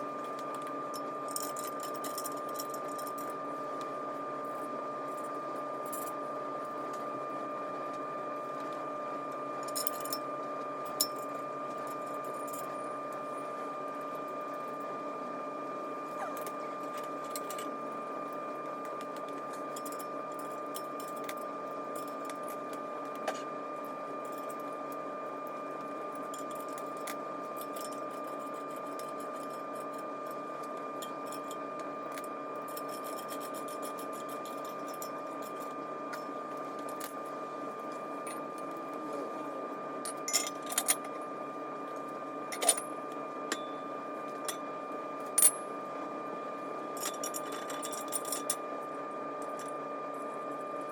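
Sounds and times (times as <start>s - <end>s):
steady hum with high whine: 0.0s - 50.9s.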